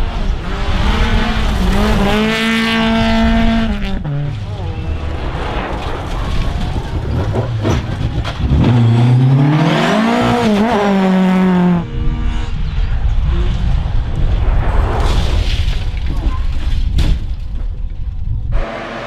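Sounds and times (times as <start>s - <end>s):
rally car engine revving: 0.0s - 15.2s, 18.6s - 19.0s
low rumbling noise: 0.0s - 19.0s.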